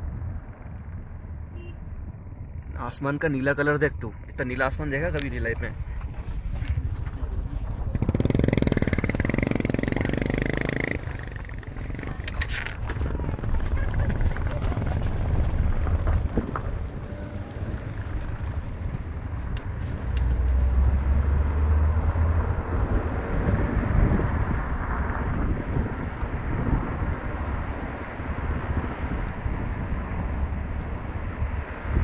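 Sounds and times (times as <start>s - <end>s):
vehicle rumble: 0.0s - 32.0s
wind buffeting microphone: 4.7s - 21.3s, 22.1s - 32.0s.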